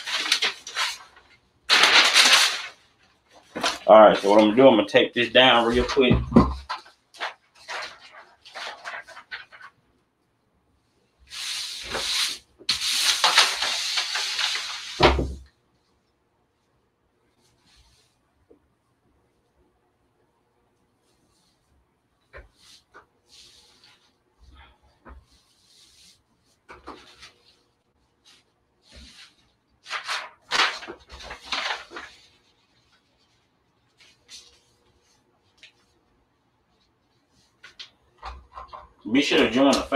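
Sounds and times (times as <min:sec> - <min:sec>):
rustling and scraping handling: 0:00.0 - 0:09.8, 0:11.3 - 0:15.9, 0:21.0 - 0:36.1, 0:36.7 - 0:39.9.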